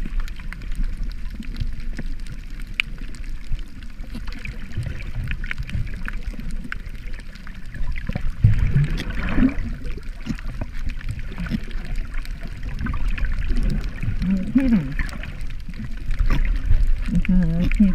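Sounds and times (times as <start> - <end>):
faint clicks and crackles: 0.0 - 17.9
muffled underwater rumble: 0.0 - 17.9
water gurgling: 0.0 - 17.9.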